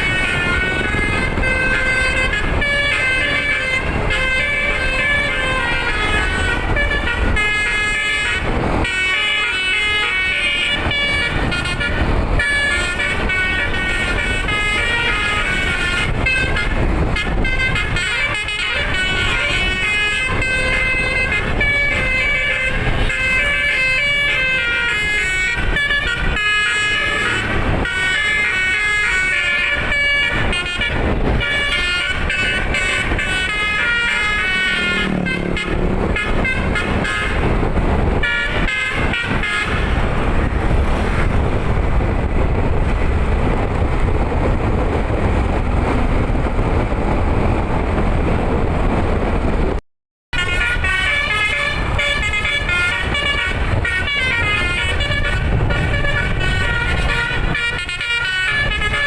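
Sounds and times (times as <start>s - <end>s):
air horn melody: 0.0s - 42.4s, 50.3s - 59.0s
steady rushing noise: 0.0s - 49.8s, 50.4s - 59.0s.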